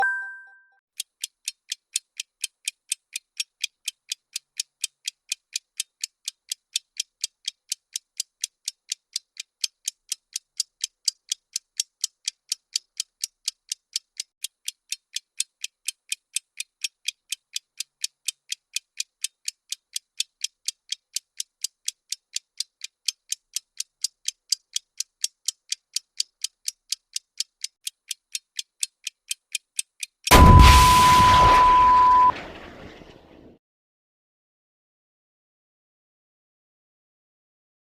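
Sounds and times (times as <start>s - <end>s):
countdown timer ticking: 0.0s - 32.3s.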